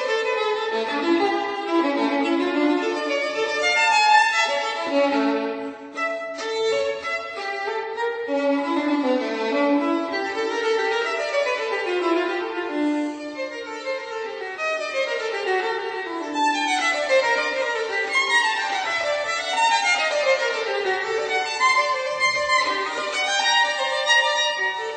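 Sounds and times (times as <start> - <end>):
instrumental music: 0.0 - 24.9.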